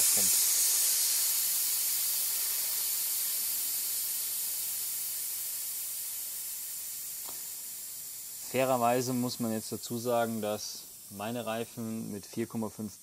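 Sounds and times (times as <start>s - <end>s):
air hissing from tyre valve: 0.0s - 13.0s.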